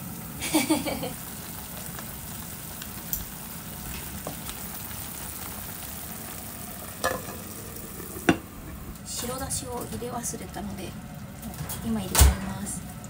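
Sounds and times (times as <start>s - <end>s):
hot pot sizzling: 0.0s - 13.0s.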